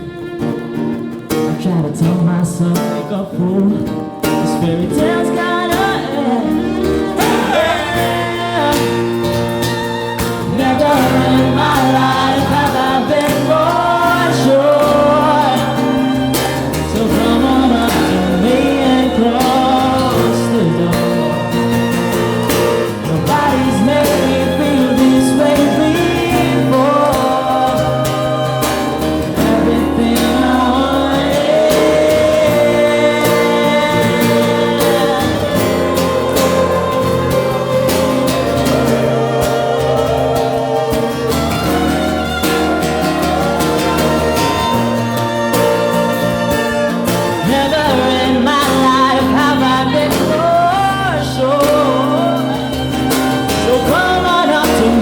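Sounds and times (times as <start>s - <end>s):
acoustic guitar: 0.0s - 55.0s
person singing: 0.0s - 55.0s
backing instruments: 3.6s - 55.0s.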